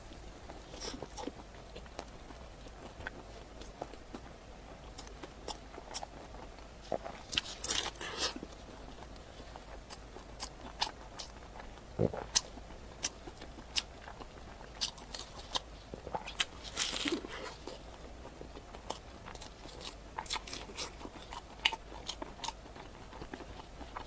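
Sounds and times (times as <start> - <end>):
crunchy bread chewing: 0.0 - 24.0.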